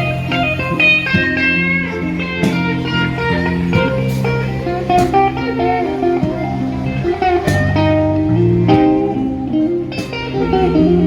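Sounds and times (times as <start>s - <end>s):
electric guitar playing: 0.0s - 11.0s
live blues band: 0.0s - 11.0s.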